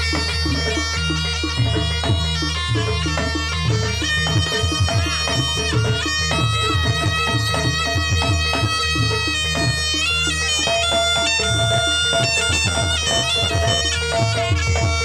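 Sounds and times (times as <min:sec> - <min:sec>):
shrill reed shawm melody: 0:00.0 - 0:15.0.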